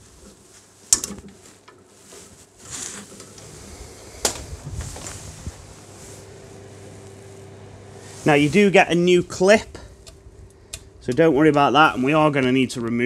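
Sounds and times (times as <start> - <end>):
rustling and scraping: 0.0 - 10.5.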